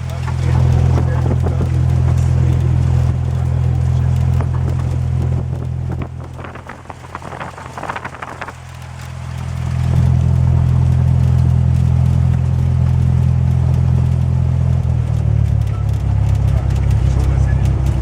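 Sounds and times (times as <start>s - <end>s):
small plane piston engine: 0.0s - 18.0s.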